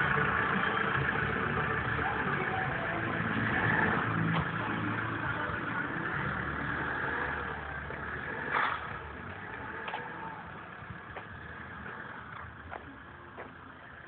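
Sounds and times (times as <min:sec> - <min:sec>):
pickup truck engine driving away: 0:00.0 - 0:14.0.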